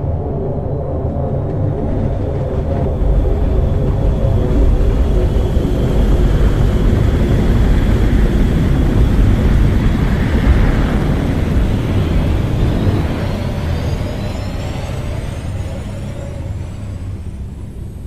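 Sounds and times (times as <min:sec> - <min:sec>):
spaceship deep rumble: 0:00.0 - 0:18.0
faint rising whines: 0:01.9 - 0:18.0.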